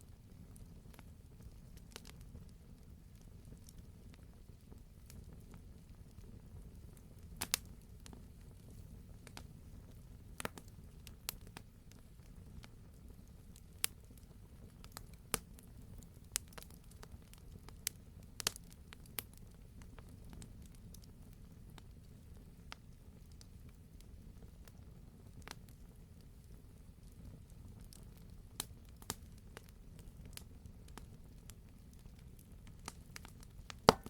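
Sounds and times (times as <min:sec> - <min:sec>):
low rumble of flames: 0:00.0 - 0:34.0
burning wood popping and crackling: 0:00.2 - 0:34.0.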